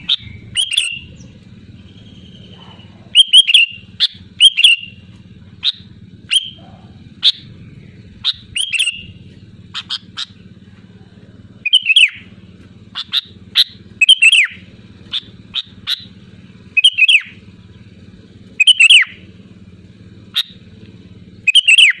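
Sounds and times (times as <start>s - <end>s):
bird chirping: 0.0s - 10.5s, 11.6s - 19.3s, 20.3s - 20.6s, 21.2s - 22.0s
steady low hum: 0.0s - 22.0s.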